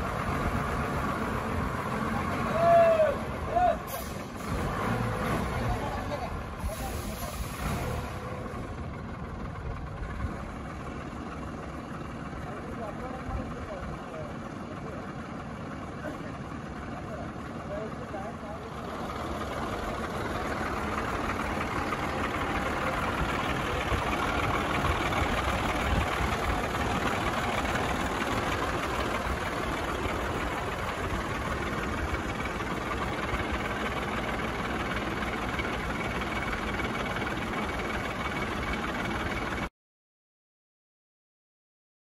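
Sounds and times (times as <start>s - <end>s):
diesel engine running at low revs: 0.0s - 39.7s.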